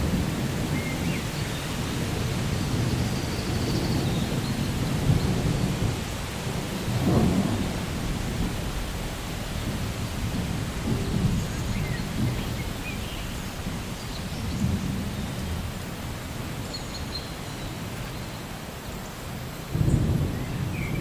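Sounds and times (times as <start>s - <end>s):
thunder rumbling: 0.0s - 16.6s, 19.7s - 21.0s
steady rain: 0.0s - 21.0s.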